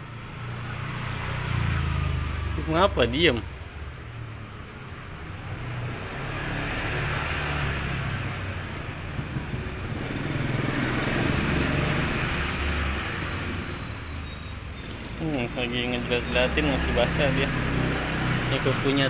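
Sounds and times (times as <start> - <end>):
vehicle engine passing: 0.0 - 14.1, 14.7 - 19.0.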